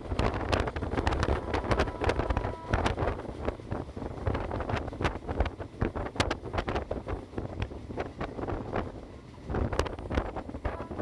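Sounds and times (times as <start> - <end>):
train running rumble: 0.0 - 11.0
wheels clacking on track: 0.0 - 11.0
wind buffeting microphone: 0.0 - 11.0.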